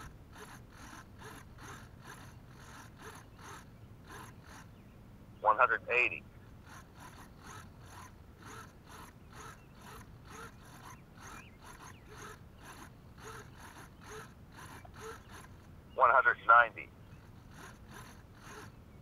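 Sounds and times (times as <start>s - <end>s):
servos whirring: 0.0s - 19.0s.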